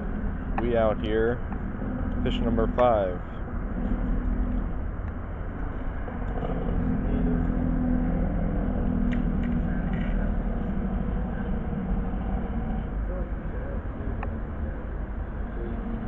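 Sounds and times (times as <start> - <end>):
motor traffic rumble: 0.0 - 16.0.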